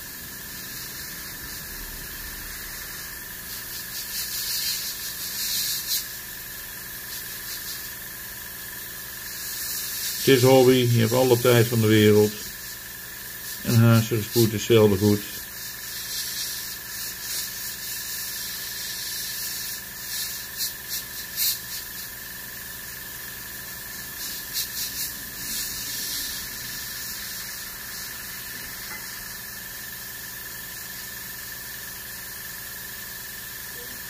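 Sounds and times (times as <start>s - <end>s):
airbrush spraying paint: 0.0s - 34.0s.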